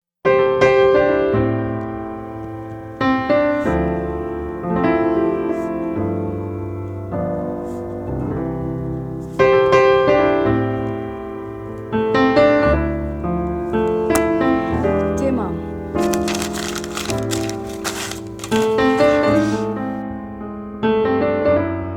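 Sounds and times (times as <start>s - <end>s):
slow solo piano piece: 0.3s - 21.9s.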